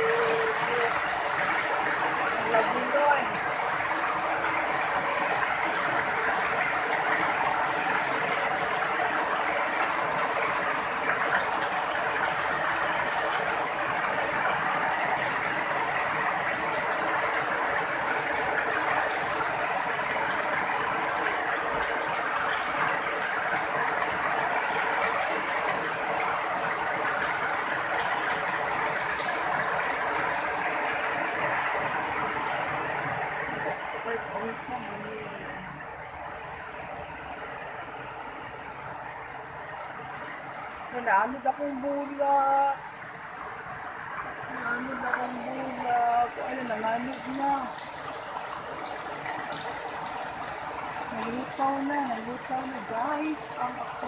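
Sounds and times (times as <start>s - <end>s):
heavy rain: 0.0s - 54.0s
runoff splashing onto concrete: 0.0s - 54.0s.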